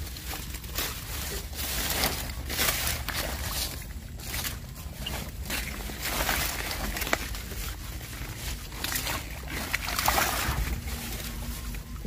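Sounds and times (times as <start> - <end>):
rustling leaves: 0.0 - 12.0
water sloshing and swishing: 0.0 - 12.0.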